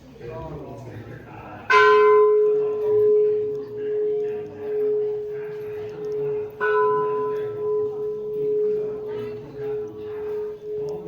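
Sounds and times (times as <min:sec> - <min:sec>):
temple bell ringing: 0:01.6 - 0:11.0.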